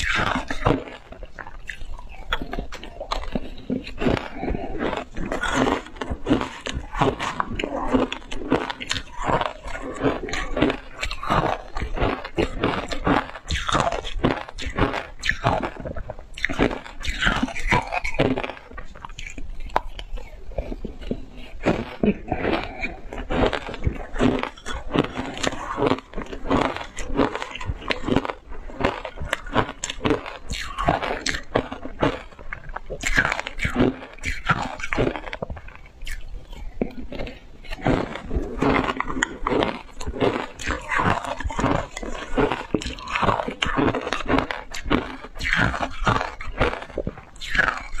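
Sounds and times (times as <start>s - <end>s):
ice crunching chewing: 0.0s - 48.0s.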